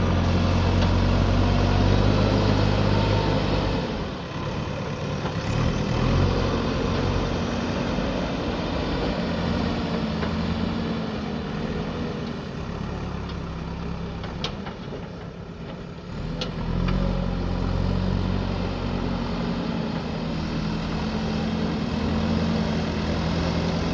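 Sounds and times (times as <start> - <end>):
diesel backhoe engine running: 0.0 - 23.9.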